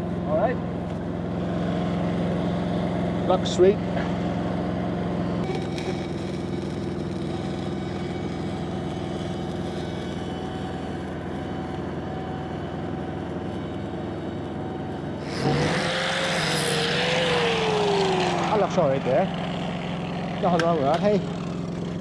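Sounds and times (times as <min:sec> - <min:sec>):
generator engine humming: 0:00.0 - 0:22.0.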